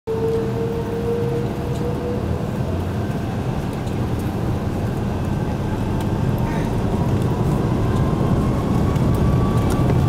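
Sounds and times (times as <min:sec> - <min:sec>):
airliner cabin engine noise: 0:00.1 - 0:10.0
whine: 0:00.1 - 0:10.0.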